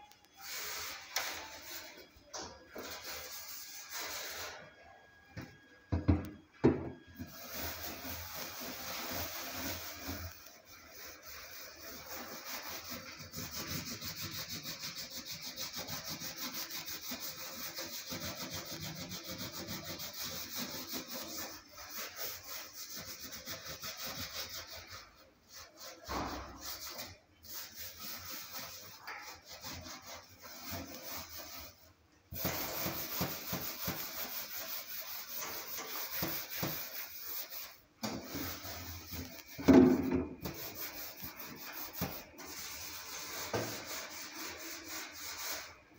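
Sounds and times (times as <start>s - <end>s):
hand scrubbing inside oven: 7.3s - 45.9s.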